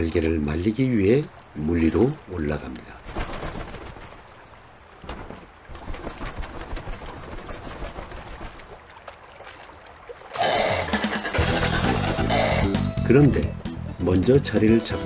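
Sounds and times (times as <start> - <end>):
water splashing: 0.0 - 12.6.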